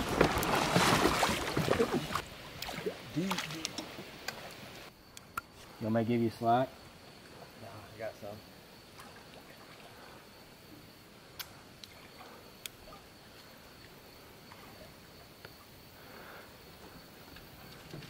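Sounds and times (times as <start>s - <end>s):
faint steady hiss: 1.2s - 18.0s.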